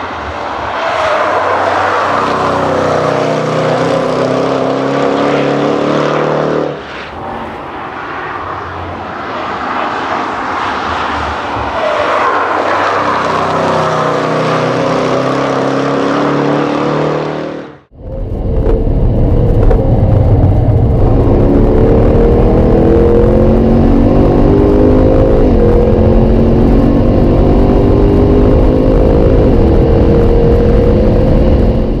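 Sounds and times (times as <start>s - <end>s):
car accelerating with upshifts: 0.0s - 17.9s, 19.5s - 32.0s
car engine at full throttle: 0.0s - 32.0s.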